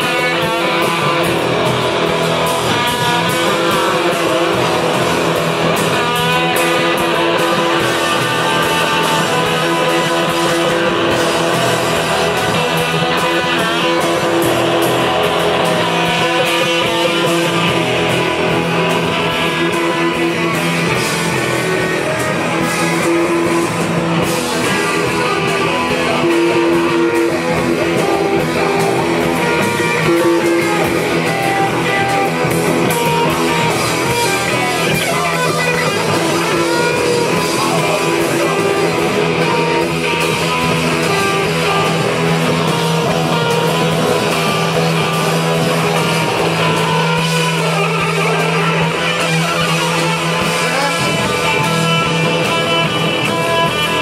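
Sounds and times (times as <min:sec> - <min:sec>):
bass guitar: 0:00.0 - 0:54.0
drums with crashing cymbals: 0:00.0 - 0:54.0
electric guitar: 0:00.0 - 0:54.0.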